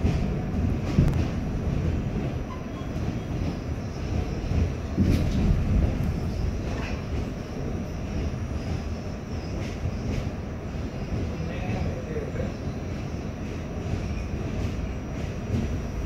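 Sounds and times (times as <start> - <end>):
subway car rumbling on track: 0.0 - 16.0.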